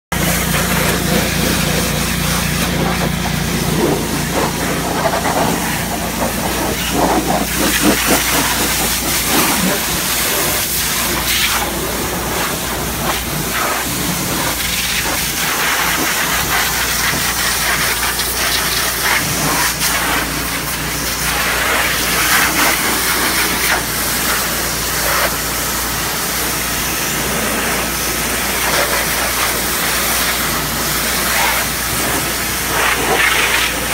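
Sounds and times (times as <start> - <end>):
pressure washer jet hissing: 0.2 - 33.9
steady low hum: 0.2 - 33.9.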